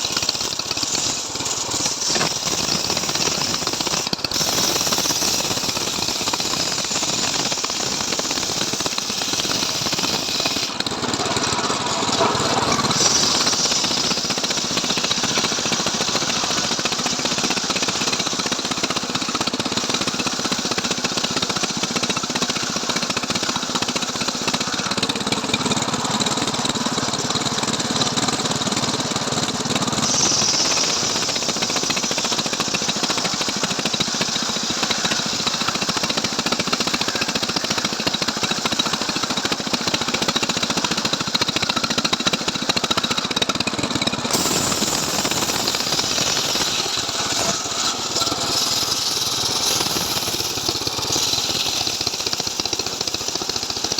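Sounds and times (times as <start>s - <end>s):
chain cutting log: 0.0s - 25.6s, 29.8s - 43.3s, 44.2s - 53.9s
chainsaw engine under load: 0.0s - 53.9s.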